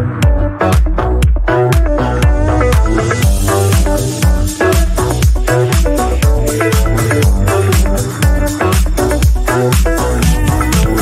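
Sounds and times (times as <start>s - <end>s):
upbeat dance music: 0.0s - 11.0s.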